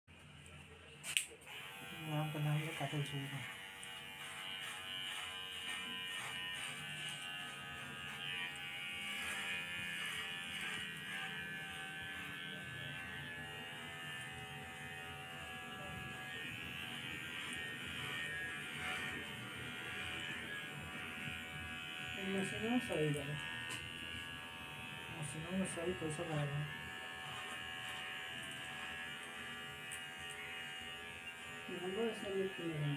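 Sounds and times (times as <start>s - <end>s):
electric hair clipper buzzing: 0.5s - 32.9s.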